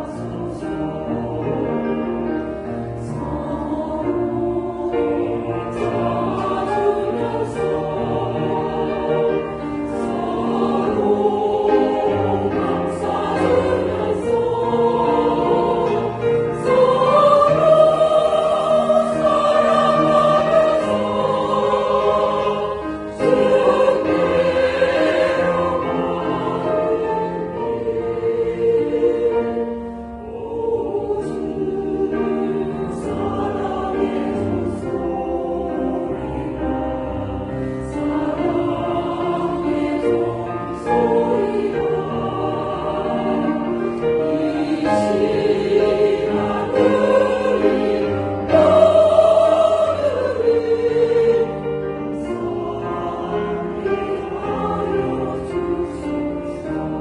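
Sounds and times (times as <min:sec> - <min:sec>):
choir singing held chords: 0:00.0 - 0:57.0.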